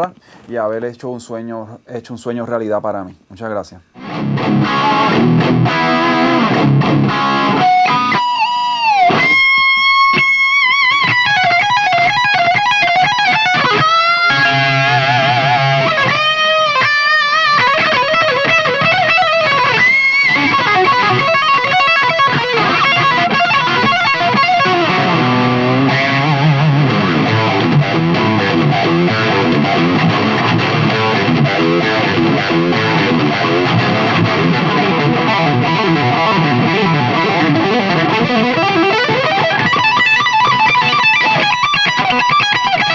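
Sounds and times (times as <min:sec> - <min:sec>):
electric guitar solo: 0:04.0 - 0:42.9.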